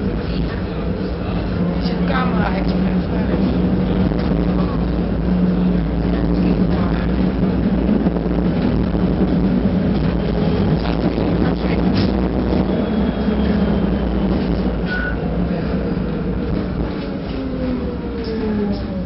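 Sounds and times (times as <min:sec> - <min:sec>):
tram motors and wheels rumbling: 0:00.0 - 0:19.0.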